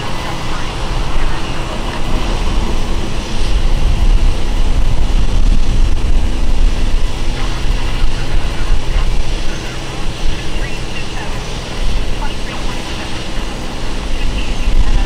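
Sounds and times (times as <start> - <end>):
diesel locomotive engine rumble: 0.0 - 15.0
wind buffeting microphone: 0.0 - 15.0.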